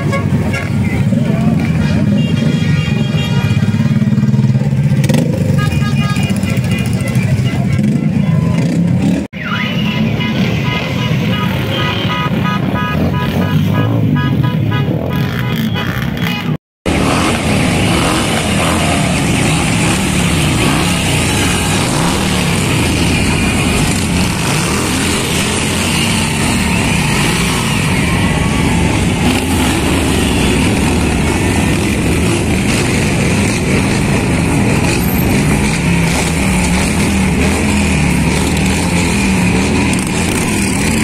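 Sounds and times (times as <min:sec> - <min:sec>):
motorcycles passing slowly: 0:00.0 - 0:16.3, 0:16.9 - 0:41.0.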